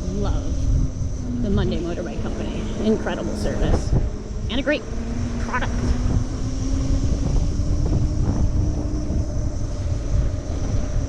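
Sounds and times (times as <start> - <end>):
electric moped hum: 0.0 - 11.0
wind buffeting microphone: 0.0 - 11.0.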